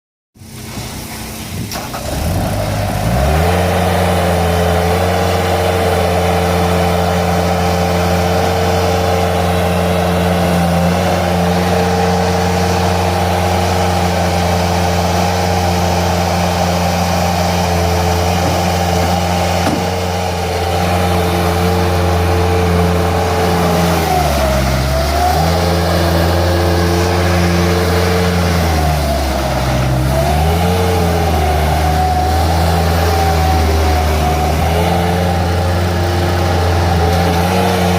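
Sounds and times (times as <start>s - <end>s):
diesel engine running at high revs: 0.4s - 37.9s.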